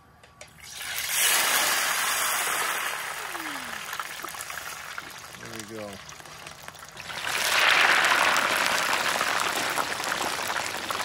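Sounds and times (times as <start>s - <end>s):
fries sizzling in hot oil: 0.6s - 11.0s.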